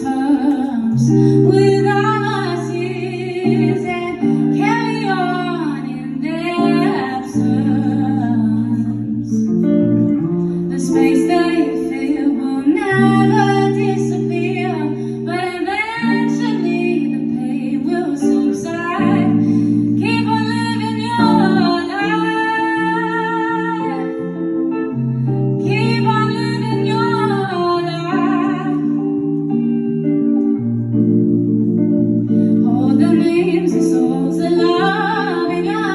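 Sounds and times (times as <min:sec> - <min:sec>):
woman singing: 0:00.0 - 0:30.6, 0:32.0 - 0:35.9
guitar chords: 0:00.0 - 0:35.9.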